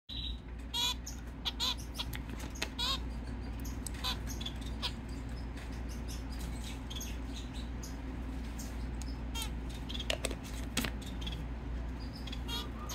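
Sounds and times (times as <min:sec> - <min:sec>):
finches chirping: 0:00.1 - 0:10.4, 0:11.0 - 0:12.9
steady low hum: 0:00.1 - 0:12.9.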